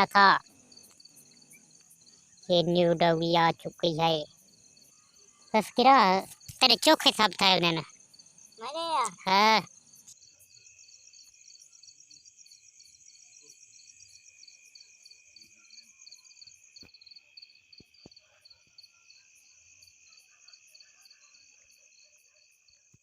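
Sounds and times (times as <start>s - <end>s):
crickets and insects chirring: 0.0s - 22.9s.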